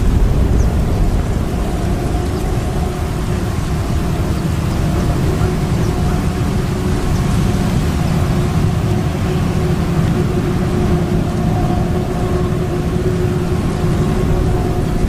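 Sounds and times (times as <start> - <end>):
constant tone: 0.0 - 15.0
heavy machinery drone: 0.0 - 15.0.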